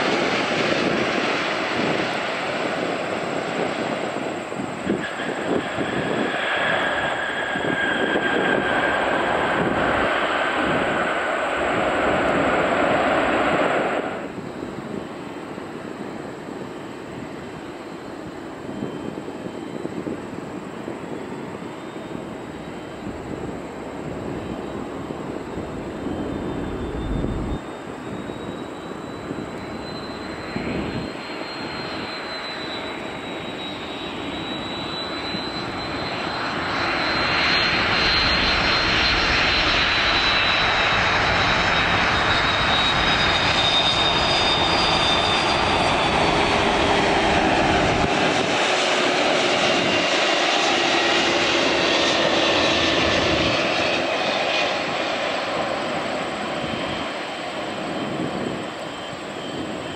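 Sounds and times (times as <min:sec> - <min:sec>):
jet airliner passing overhead: 0:00.0 - 0:59.9.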